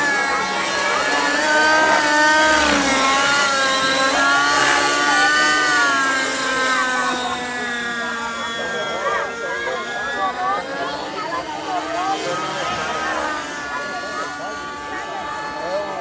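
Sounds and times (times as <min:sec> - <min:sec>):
model helicopter engine and rotor: 0:00.0 - 0:16.0.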